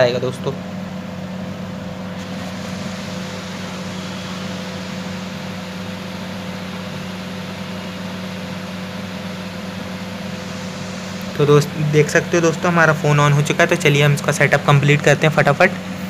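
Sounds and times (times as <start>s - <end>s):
machine hum: 0.0s - 16.0s
constant hiss: 2.1s - 16.0s.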